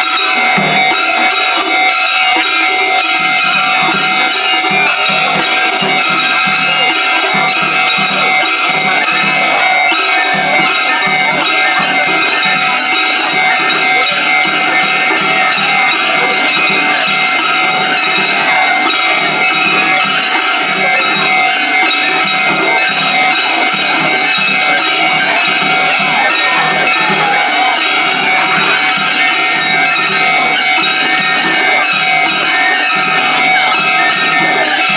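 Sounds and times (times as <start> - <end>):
crowd noise: 0.0 - 34.9
festival music: 0.0 - 34.9
level-crossing warning bell: 0.0 - 34.9.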